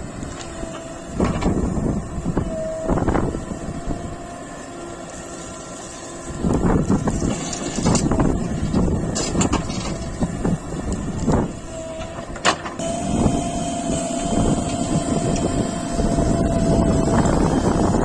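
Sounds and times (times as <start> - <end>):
diesel engine running: 0.0 - 18.0
steady high whine: 0.0 - 18.0.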